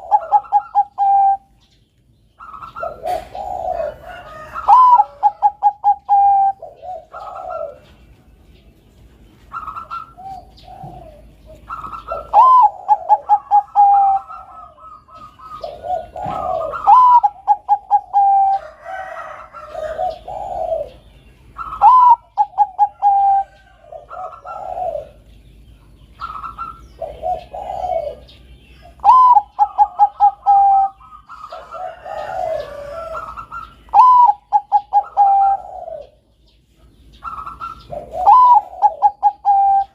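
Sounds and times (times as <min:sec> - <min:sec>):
dove cooing: 0:00.0 - 0:01.8, 0:02.4 - 0:08.4, 0:09.4 - 0:39.9.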